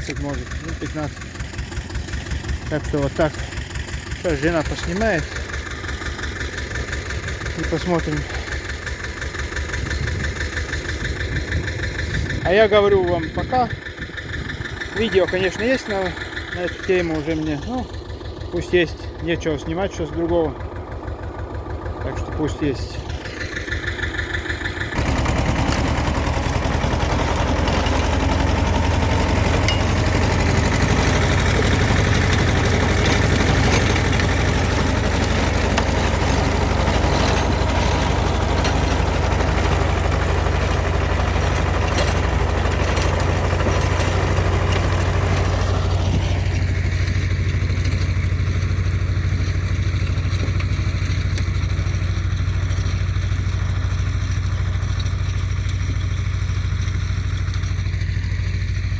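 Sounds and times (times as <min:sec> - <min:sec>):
tractor diesel engine droning: 0:00.0 - 0:58.9.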